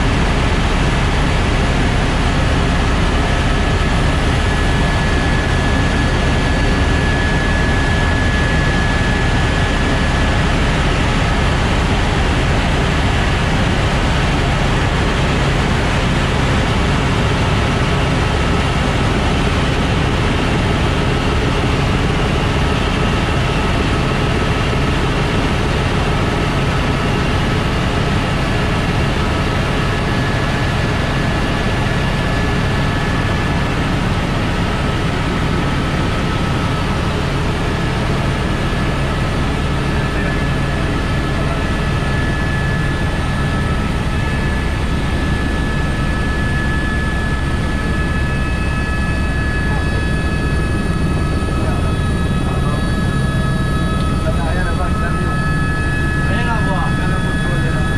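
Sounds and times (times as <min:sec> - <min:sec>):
helicopter in flight: 0:00.0 - 0:57.9.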